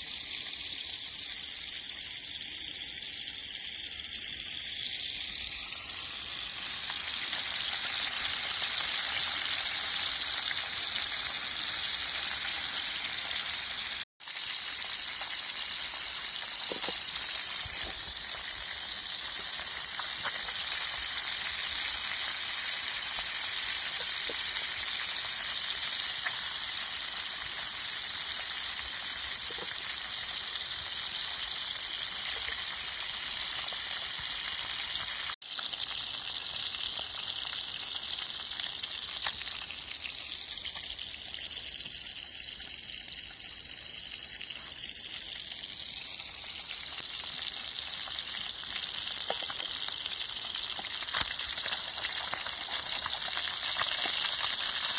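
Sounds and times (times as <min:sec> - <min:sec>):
fish sizzling in oil: 0:00.0 - 0:54.9.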